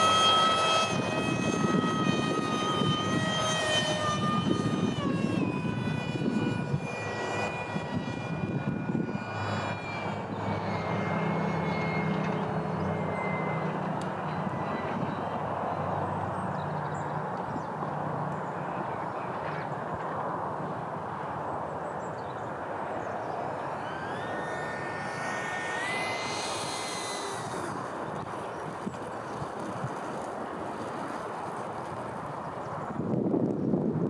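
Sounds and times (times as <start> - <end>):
electric ducted fan whine: 0.0 - 34.0.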